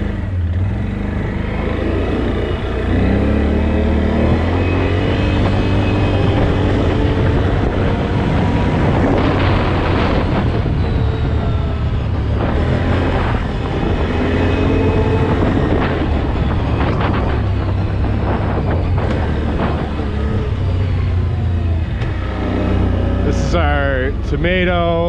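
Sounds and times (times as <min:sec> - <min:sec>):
vehicle engine driving: 0:00.0 - 0:25.0.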